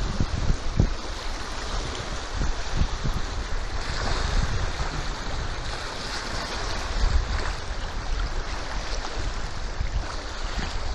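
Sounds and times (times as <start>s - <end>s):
river water rushing and splashing: 0.0s - 10.9s
wind on microphone: 0.0s - 10.9s.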